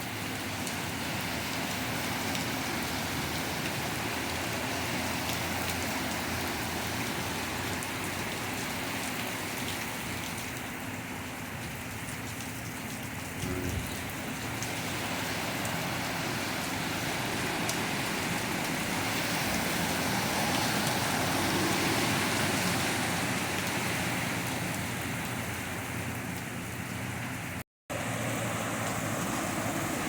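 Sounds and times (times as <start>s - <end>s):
car tyres swishing through water: 0.0s - 30.0s
heavy rain falling: 0.0s - 30.0s.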